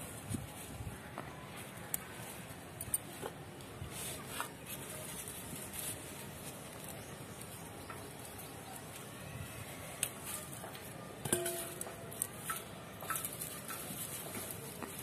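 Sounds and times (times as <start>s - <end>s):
tomato leaves rustling: 0.0s - 15.0s.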